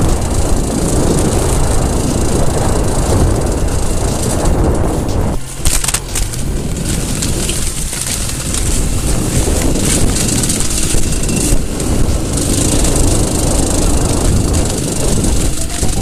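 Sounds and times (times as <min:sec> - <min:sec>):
two-stroke motorcycle engine running: 0:00.0 - 0:16.0
wind on microphone: 0:00.0 - 0:16.0.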